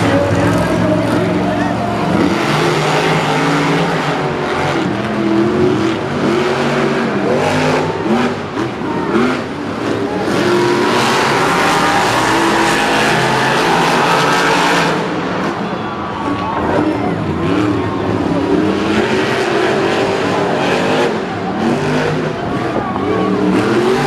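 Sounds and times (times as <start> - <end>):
monster truck engines revving: 0.0 - 24.0
stadium noise: 0.0 - 24.0.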